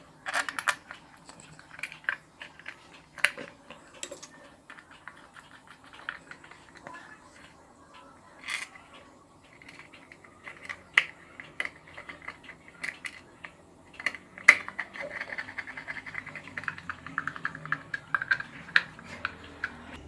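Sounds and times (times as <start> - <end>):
screwdriver clicking and scraping: 0.2 - 6.9, 9.5 - 20.0.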